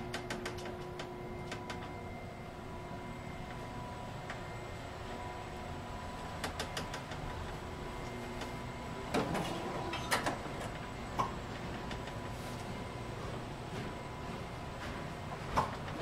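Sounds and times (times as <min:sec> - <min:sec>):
elevator hum: 0:00.0 - 0:16.0.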